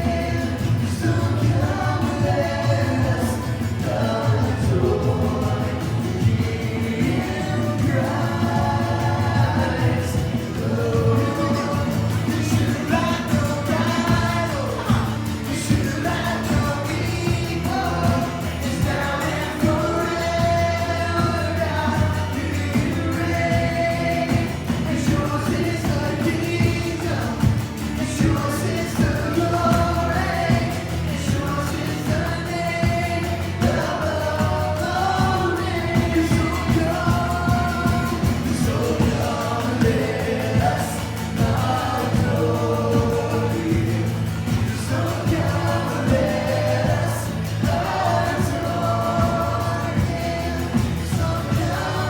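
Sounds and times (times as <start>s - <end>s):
worship song with singing voices: 0.0s - 52.0s.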